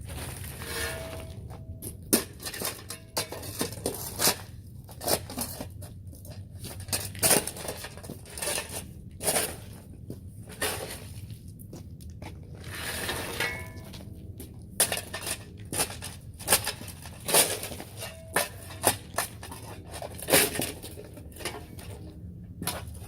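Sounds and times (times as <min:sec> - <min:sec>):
concrete and gravel scraping: 0:00.0 - 0:23.0.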